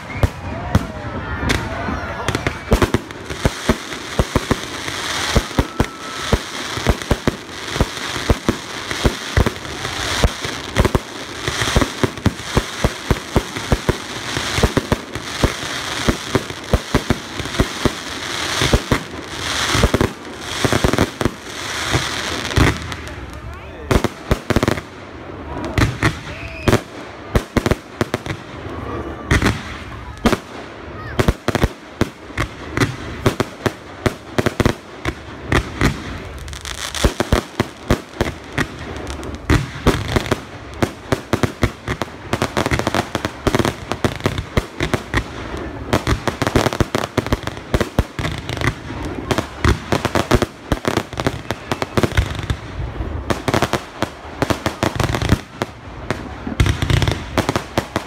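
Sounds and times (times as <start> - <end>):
faint crowd voices: 0.0 - 58.0
firework bursts and bangs: 0.0 - 58.0
fireworks crackling: 0.0 - 58.0.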